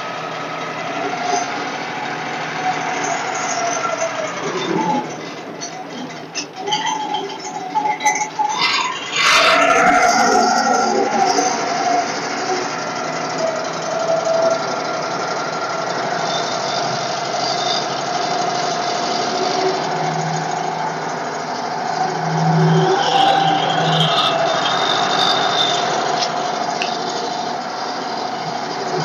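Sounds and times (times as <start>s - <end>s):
sawmill engine running: 0.0s - 29.0s
steady whine: 0.0s - 29.0s.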